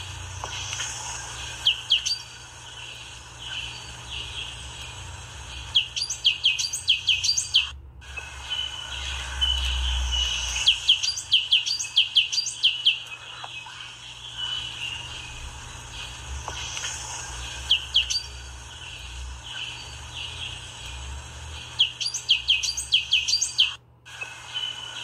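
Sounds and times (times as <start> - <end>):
steady high-pitched buzz: 0.0 - 25.0
small bird chirping: 0.4 - 25.0.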